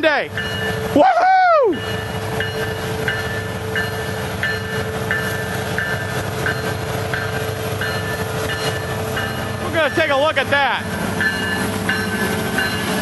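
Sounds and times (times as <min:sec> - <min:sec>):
diesel locomotive rumble: 0:00.0 - 0:13.0
bell dinging: 0:00.4 - 0:00.8, 0:01.8 - 0:10.2, 0:11.2 - 0:13.0.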